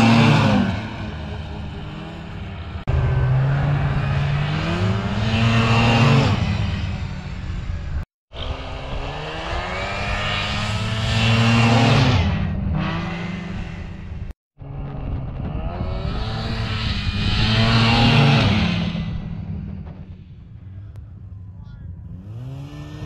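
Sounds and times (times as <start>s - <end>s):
snowmobile engine revving: 0.0s - 21.0s, 21.6s - 23.0s.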